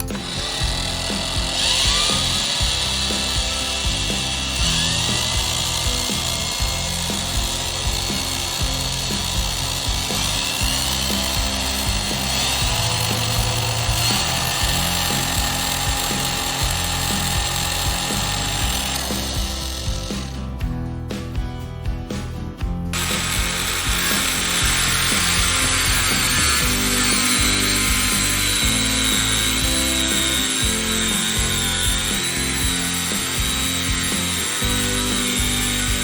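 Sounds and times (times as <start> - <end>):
angle grinder whining: 0.0 - 20.6, 22.9 - 36.0
background music: 0.0 - 36.0.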